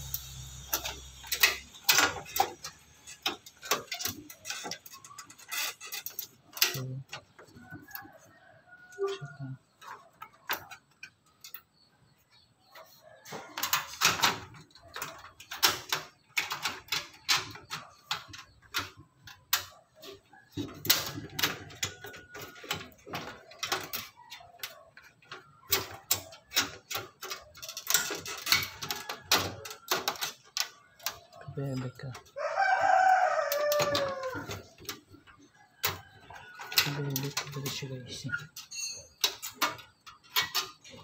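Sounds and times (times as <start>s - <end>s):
clicks and rattles inside metal computer case: 0.6s - 8.6s, 13.2s - 41.0s.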